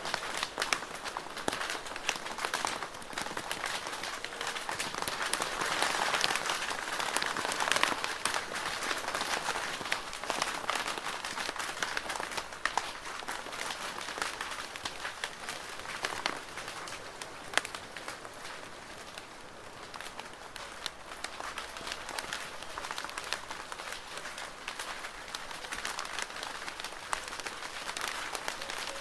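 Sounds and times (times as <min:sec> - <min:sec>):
rain on a plastic roof: 0:00.0 - 0:29.0.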